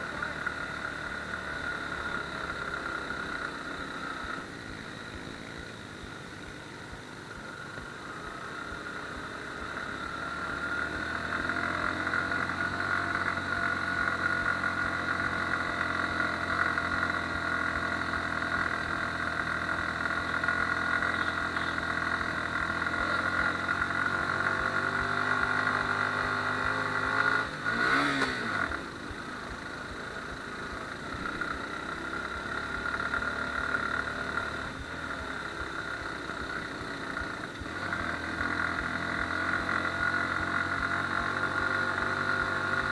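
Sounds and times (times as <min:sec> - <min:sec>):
motorcycle engine under load: 0:00.0 - 0:42.9.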